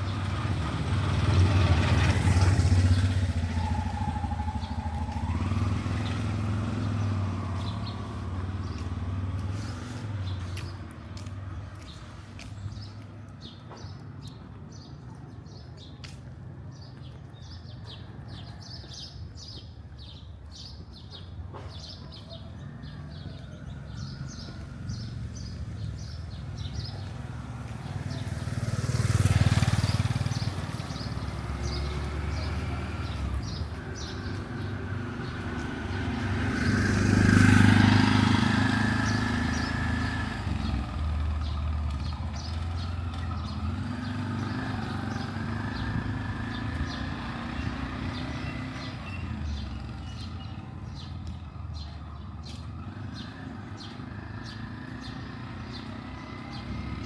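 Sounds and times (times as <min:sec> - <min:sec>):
birds chirping: 0:00.0 - 0:57.0
low traffic hum: 0:00.0 - 0:57.0
vehicles passing close: 0:00.0 - 0:57.0.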